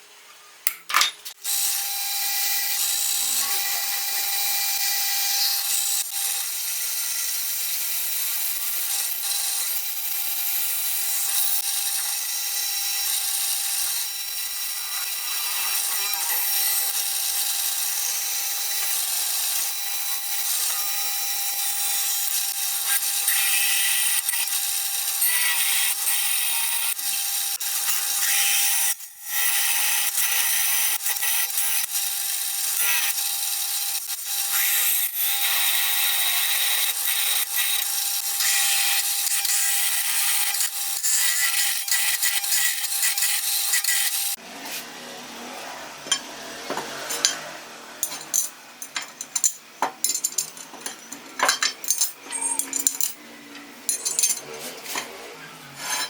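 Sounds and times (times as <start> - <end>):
electric power tool cutting: 1.3 - 48.1.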